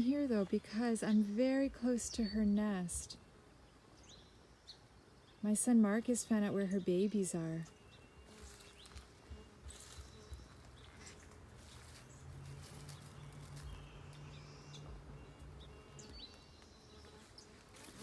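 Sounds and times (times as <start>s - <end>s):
low steady hum: 0.0s - 18.0s
songbirds chirping: 0.0s - 18.0s.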